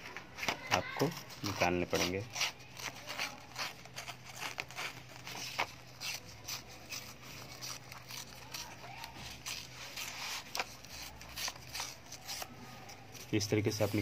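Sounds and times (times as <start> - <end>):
paper tearing: 0.4 - 14.0.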